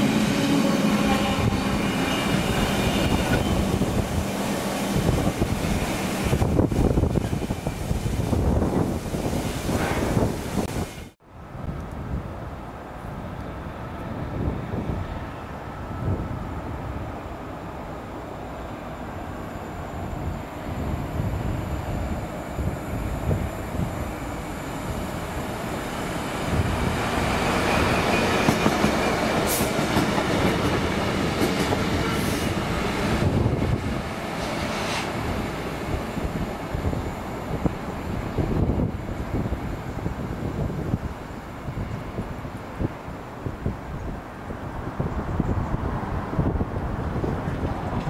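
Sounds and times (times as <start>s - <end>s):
diesel locomotive engines: 0.0s - 48.0s.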